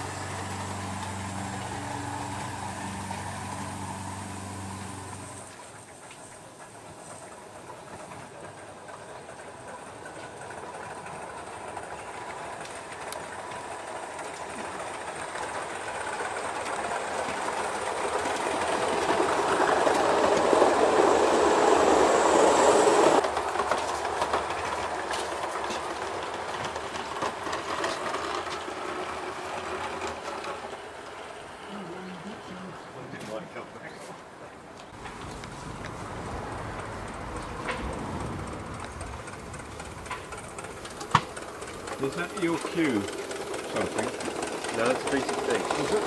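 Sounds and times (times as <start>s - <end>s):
model train wheels rattling: 0.0s - 31.6s, 34.9s - 46.0s.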